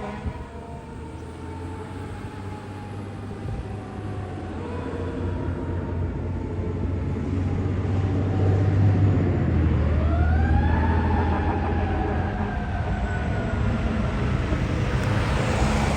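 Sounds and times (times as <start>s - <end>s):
fire truck siren: 0.0s - 15.9s
truck engine rumbling: 0.0s - 15.9s.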